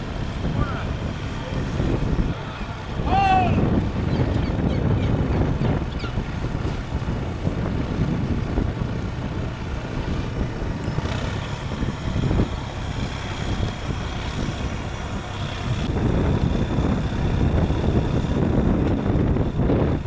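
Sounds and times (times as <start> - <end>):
low engine rumble: 0.0 - 20.0
wind buffeting microphone: 0.0 - 20.0.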